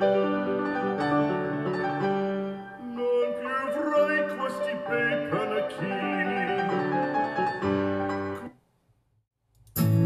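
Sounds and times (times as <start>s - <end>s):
piano music through speakers: 0.0s - 8.6s.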